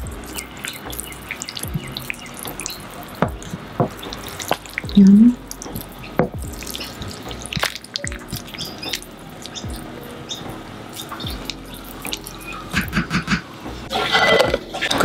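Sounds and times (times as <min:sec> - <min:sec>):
liquid sloshing and dripping: 0:00.0 - 0:12.9.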